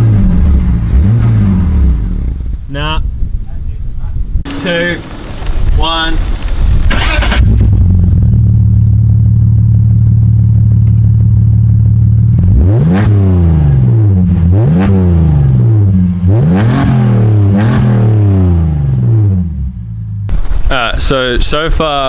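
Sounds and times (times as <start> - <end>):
car engine idling and revving: 0.0 - 21.1.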